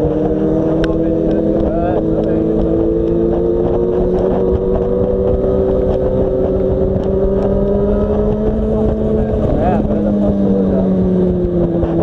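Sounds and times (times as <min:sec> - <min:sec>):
motorcycle engine running: 0:00.0 - 0:12.0
road and wind rumble: 0:00.0 - 0:12.0.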